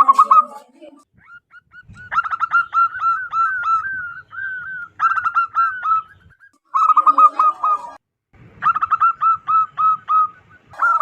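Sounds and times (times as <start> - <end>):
dove cooing: 0.0 - 0.6, 1.5 - 8.0, 8.6 - 11.0.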